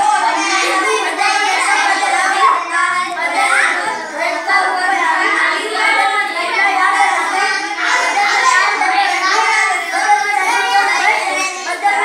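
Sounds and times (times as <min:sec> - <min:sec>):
children chanting in chorus: 0:00.0 - 0:12.0.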